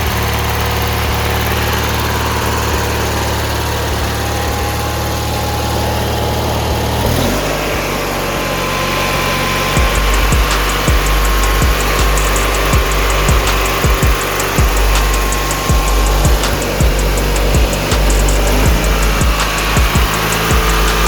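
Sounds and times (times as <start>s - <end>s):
riding mower engine idling: 0.0s - 21.0s.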